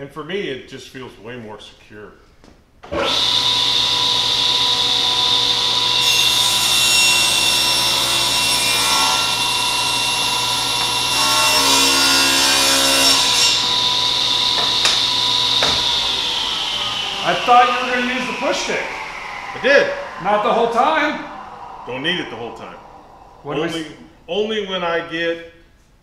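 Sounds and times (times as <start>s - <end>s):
table saw blade whine: 2.9s - 24.3s
saw spinning down: 3.0s - 24.6s.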